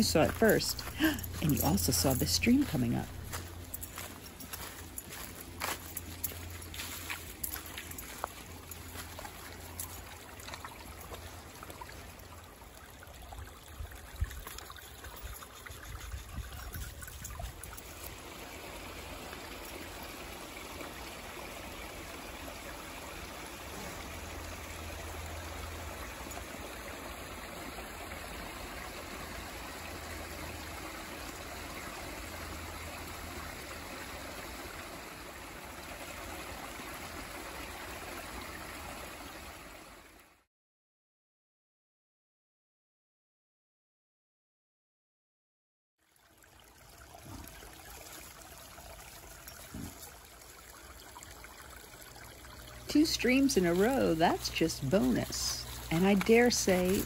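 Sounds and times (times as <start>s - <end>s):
stream trickling over rocks: 0.0s - 40.4s, 46.0s - 57.0s.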